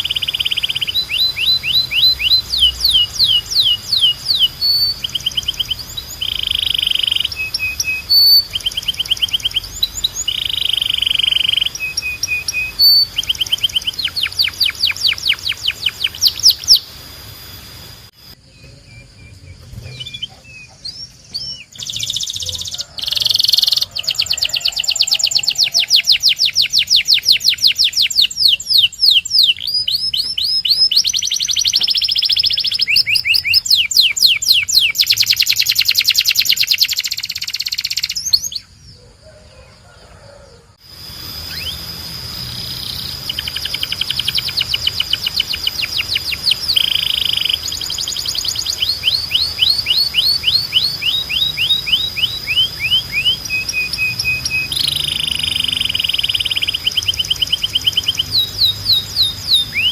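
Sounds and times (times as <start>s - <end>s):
canary singing in rolling trills: 0.0s - 59.9s.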